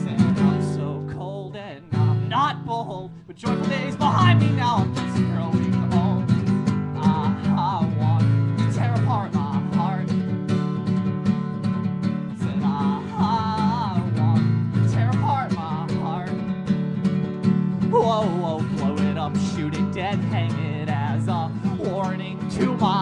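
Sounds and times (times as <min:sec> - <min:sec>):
man singing: 0:00.0 - 0:10.3, 0:12.1 - 0:16.7, 0:17.8 - 0:23.0
acoustic guitars strummed: 0:00.0 - 0:23.0.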